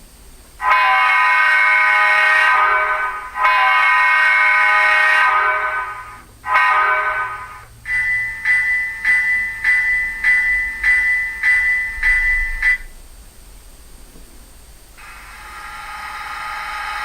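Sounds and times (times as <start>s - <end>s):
locomotive air horn blasts: 0.6s - 12.9s, 15.0s - 17.0s.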